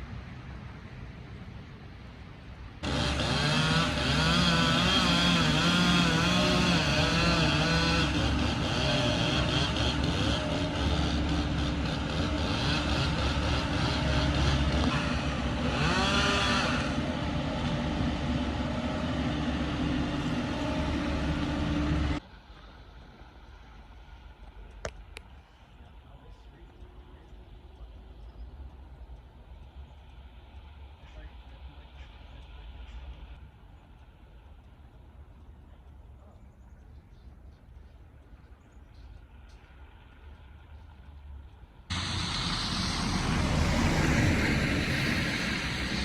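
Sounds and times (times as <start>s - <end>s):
engine running loud: 2.7s - 34.7s, 39.1s - 46.0s.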